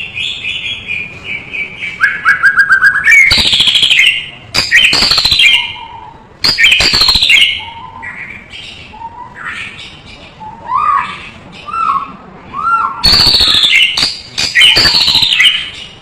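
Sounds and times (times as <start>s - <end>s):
bird singing whistled and rasping notes: 0.0s - 16.0s.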